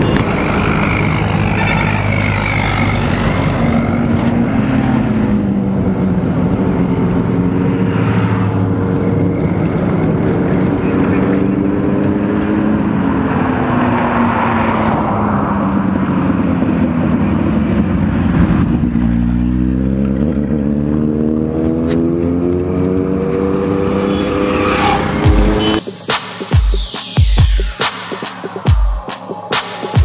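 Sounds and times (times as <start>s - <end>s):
motorcycle engine: 0.0s - 25.9s.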